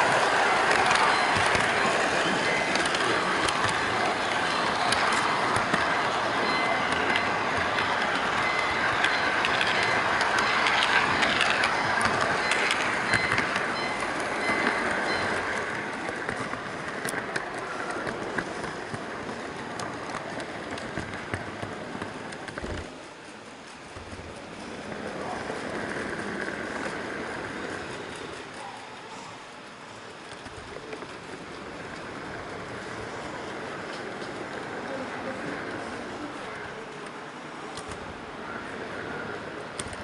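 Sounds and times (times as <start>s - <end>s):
model train wheels clicking: 0.0s - 40.0s.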